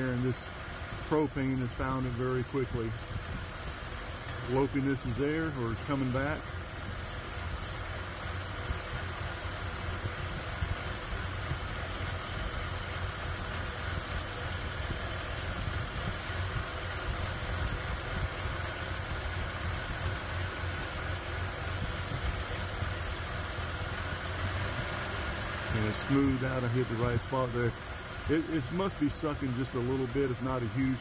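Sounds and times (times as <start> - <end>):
engine idling unevenly: 0.0 - 31.0
steady hiss: 0.0 - 31.0.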